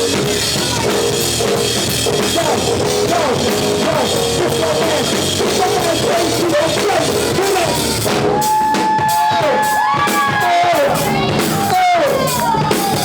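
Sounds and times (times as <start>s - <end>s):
drum kit: 0.0s - 13.0s
live band music: 0.0s - 13.0s.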